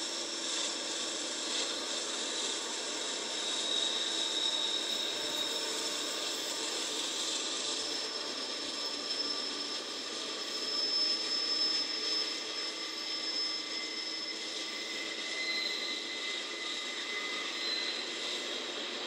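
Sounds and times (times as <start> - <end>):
train wheels squealing: 0.0 - 19.0.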